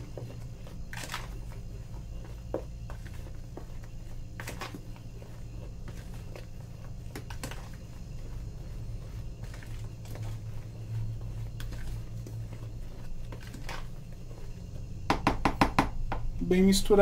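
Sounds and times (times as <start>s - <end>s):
spoon scraping plastic bowl: 0.0s - 14.8s
steady low hum: 0.0s - 17.0s.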